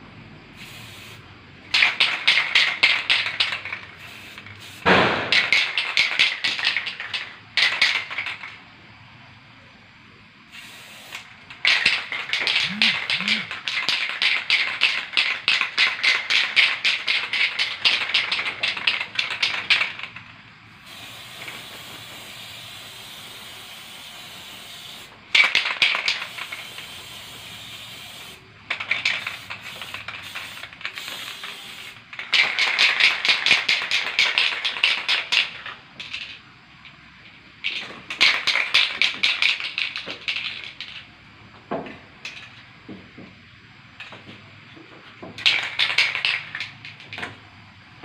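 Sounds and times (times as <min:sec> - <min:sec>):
faint steady hiss: 0:00.0 - 0:48.0
spray can sputtering: 0:00.6 - 0:08.6, 0:10.5 - 0:36.4, 0:37.6 - 0:41.0, 0:45.4 - 0:47.1.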